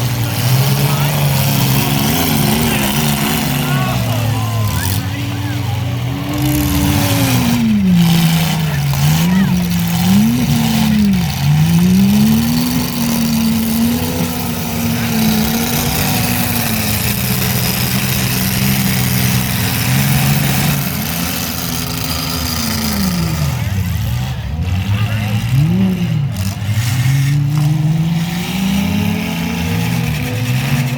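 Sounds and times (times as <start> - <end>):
truck engines revving: 0.0 - 30.9.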